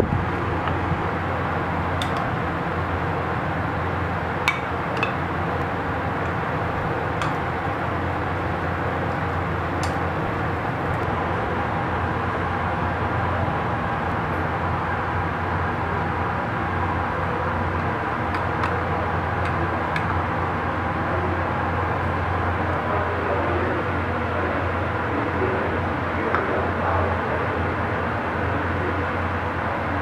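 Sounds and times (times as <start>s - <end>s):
steady background roar: 0.0s - 30.0s.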